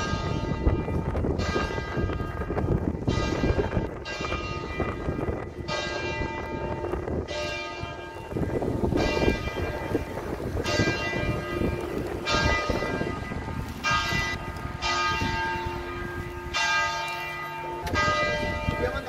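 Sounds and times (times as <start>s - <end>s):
church bell tolling: 0.0s - 19.0s.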